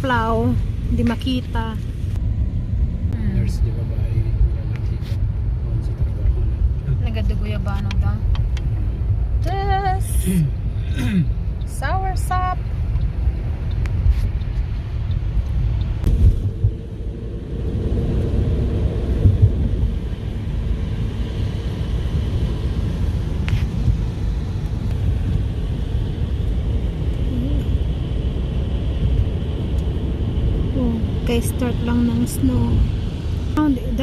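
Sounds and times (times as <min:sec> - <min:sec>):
car engine and tyres rumbling: 0:00.0 - 0:34.0.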